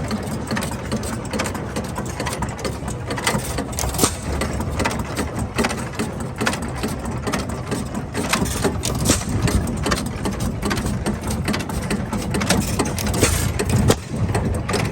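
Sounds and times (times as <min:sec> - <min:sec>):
gasoline engine running: 0:00.0 - 0:14.9.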